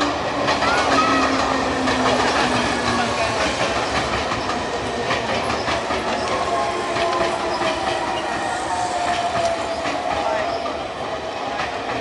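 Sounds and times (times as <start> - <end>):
wheels clicking over rail joints: 0.0 - 10.8
train wheel and rail noise: 0.0 - 12.0.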